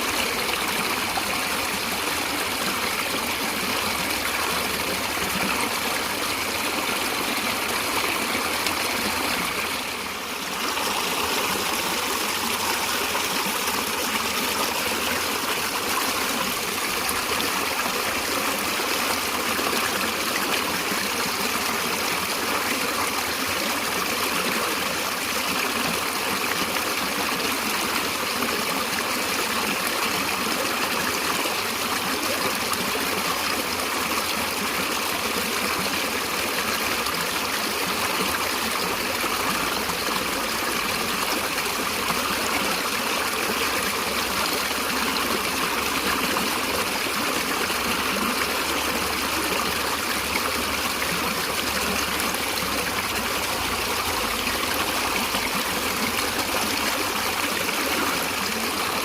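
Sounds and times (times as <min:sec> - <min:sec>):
stream of water running: 0:00.0 - 0:59.0.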